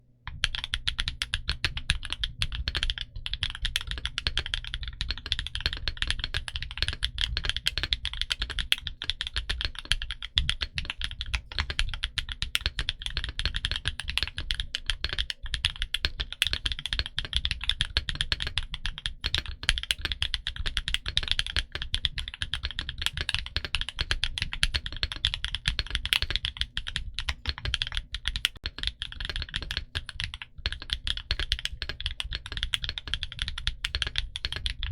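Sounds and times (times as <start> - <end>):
fast typing on mechanical keyboard: 0.3 - 34.9.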